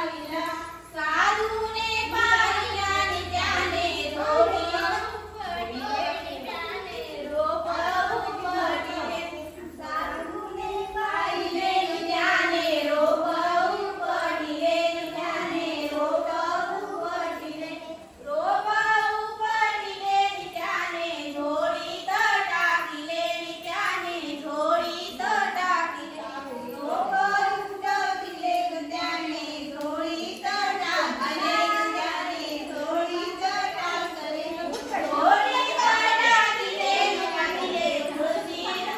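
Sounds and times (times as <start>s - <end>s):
women and girls singing folk song: 0.0s - 38.9s.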